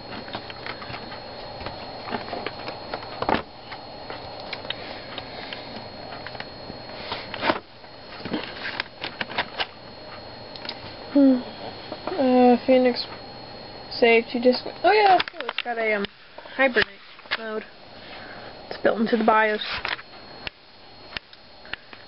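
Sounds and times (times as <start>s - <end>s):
high-pitched camera whine: 0.0s - 22.0s
laptop hum with clicks: 0.0s - 22.0s.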